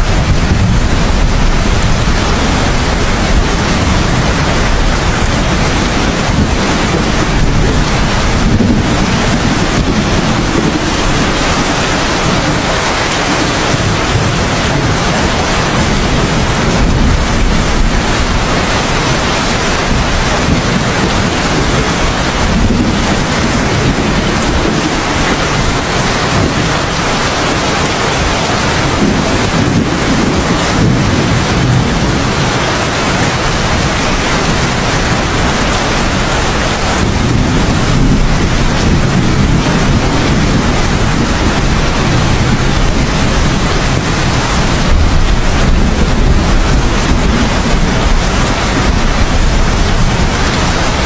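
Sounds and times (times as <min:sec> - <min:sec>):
heavy rain: 0:00.0 - 0:51.0
rolling thunder rumble: 0:00.0 - 0:51.0.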